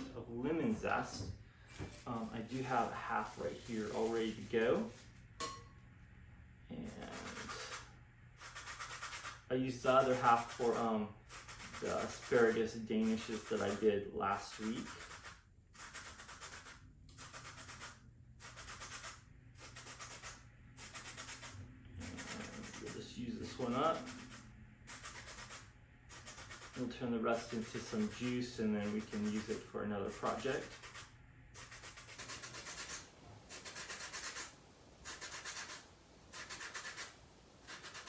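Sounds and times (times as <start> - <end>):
lemon rind rasping on grater: 2.0 - 5.2, 6.9 - 34.5, 35.1 - 38.0.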